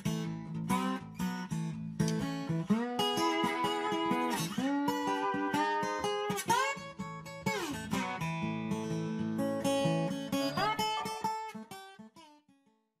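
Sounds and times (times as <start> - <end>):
acoustic guitar playing: 0.0 - 12.6.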